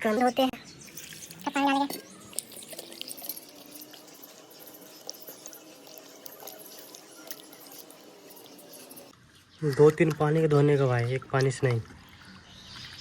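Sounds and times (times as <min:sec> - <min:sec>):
water splashing and trickling: 0:00.0 - 0:13.0
water dripping: 0:00.8 - 0:12.2.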